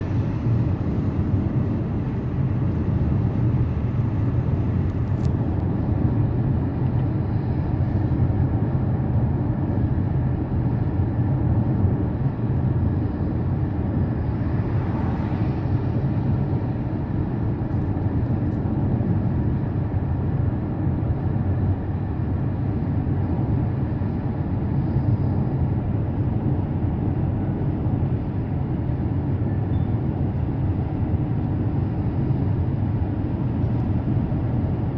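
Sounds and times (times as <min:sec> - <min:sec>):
car tyre and engine rumble: 0:00.0 - 0:34.9.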